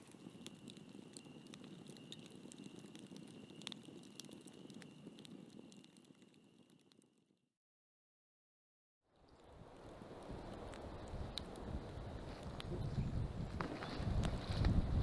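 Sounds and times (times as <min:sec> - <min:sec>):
campfire crackling and popping: 0:00.0 - 0:07.2, 0:09.3 - 0:15.0.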